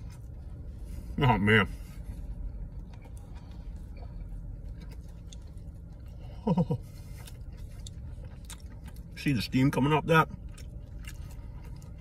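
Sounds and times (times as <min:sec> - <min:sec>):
low car cabin rumble: 0:00.0 - 0:12.0
man chewing food: 0:00.0 - 0:12.0.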